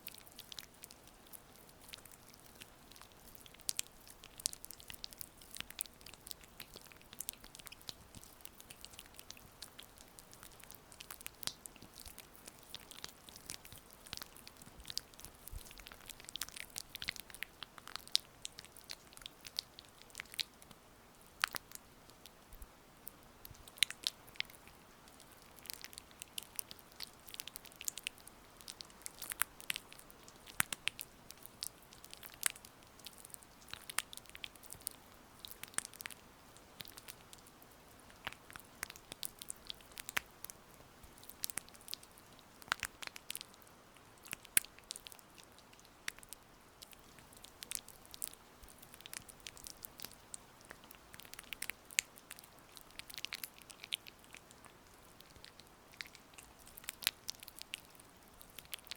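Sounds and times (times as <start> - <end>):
faint steady hiss: 0.0 - 58.9.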